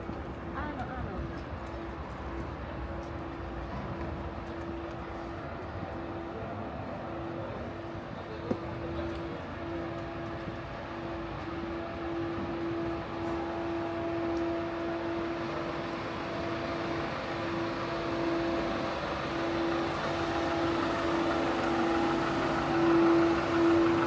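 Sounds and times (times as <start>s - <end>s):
city street noise: 0.0s - 24.0s
steady mechanical hum: 0.0s - 24.0s.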